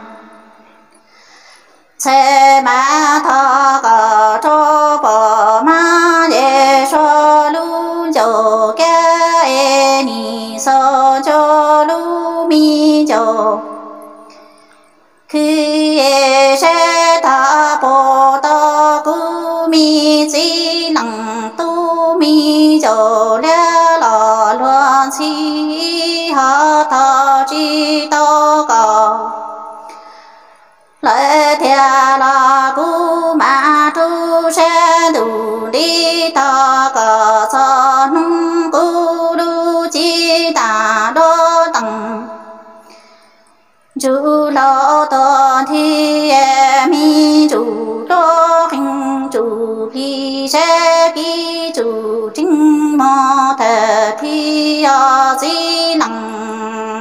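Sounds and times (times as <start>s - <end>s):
woman singing: 0.0s - 0.6s, 2.0s - 14.5s, 15.3s - 30.0s, 31.0s - 43.0s, 44.0s - 57.0s.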